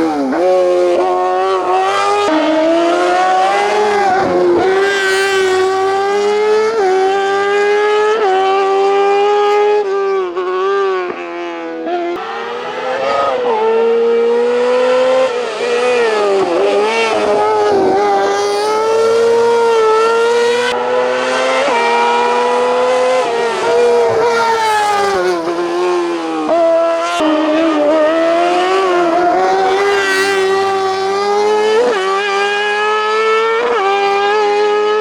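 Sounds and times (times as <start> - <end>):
race car engine at full throttle: 0.0 - 35.0.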